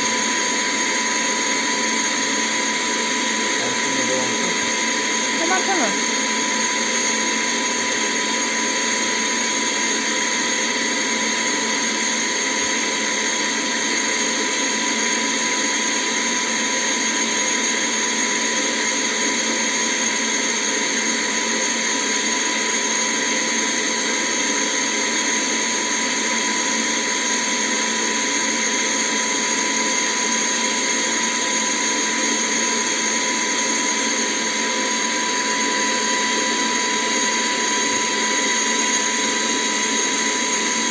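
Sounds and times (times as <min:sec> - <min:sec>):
handheld vacuum cleaner running: 0:00.0 - 0:40.9.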